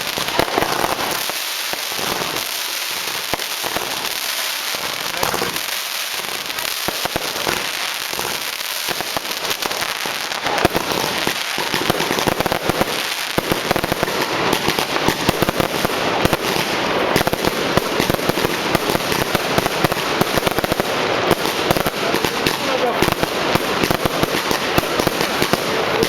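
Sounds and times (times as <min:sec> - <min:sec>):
fireworks and firecrackers crackling: 0:00.0 - 0:26.0.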